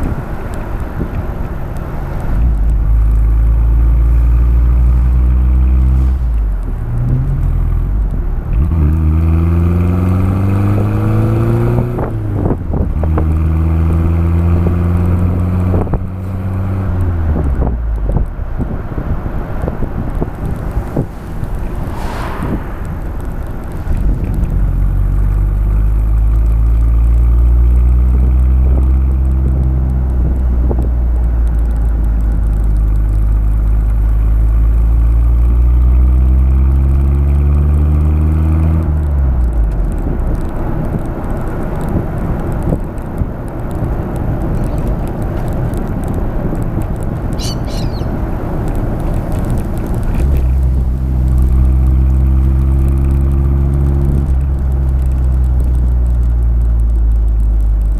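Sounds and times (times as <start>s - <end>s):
car engine exhaust under load: 0.0s - 57.9s
wind and road noise: 0.0s - 57.9s.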